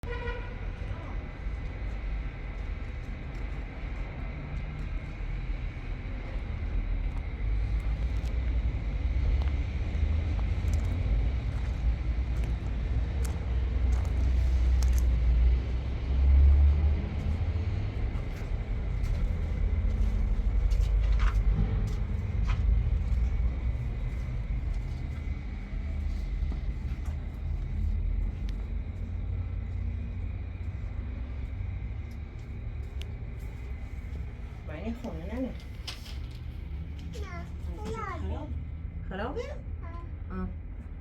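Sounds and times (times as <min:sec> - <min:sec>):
vehicle rumble: 0:00.0 - 0:41.0.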